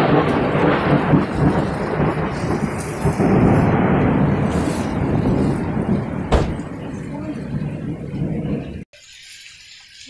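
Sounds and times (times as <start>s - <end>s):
heavy rain: 0.0s - 8.9s
thunder rumbling: 0.0s - 8.9s.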